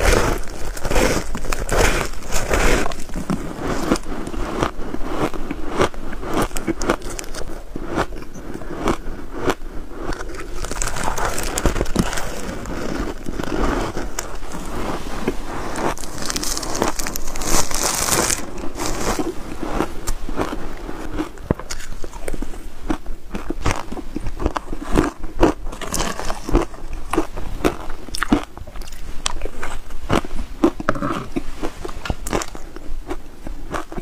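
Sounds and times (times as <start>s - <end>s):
person chewing crunchy ice: 0.0s - 34.0s.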